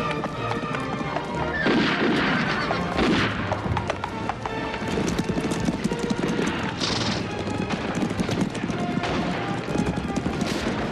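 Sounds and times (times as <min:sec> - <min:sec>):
horses galloping: 0:00.0 - 0:10.9
horses neighing: 0:01.0 - 0:03.0, 0:03.8 - 0:10.9.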